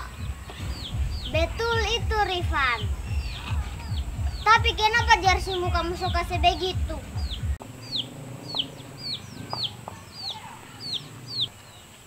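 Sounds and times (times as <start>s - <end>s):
bird peeping: 0.0s - 12.0s.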